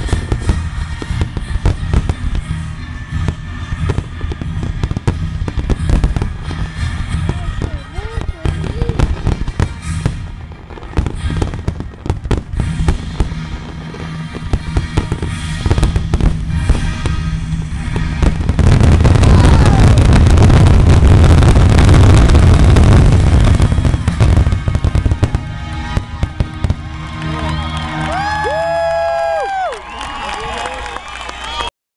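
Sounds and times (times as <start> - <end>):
fireworks bangs and crackles: 0.0 - 31.7.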